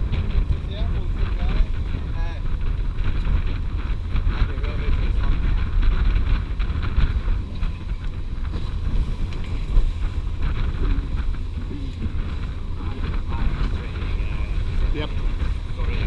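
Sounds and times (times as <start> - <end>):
low rumble of boat and water: 0.0 - 16.0
wind buffeting microphone: 0.0 - 16.0.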